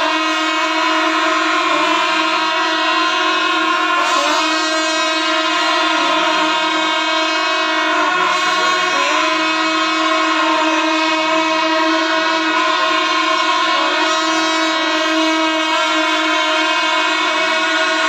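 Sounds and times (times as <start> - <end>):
horn-like wind instruments: 0.0 - 18.0.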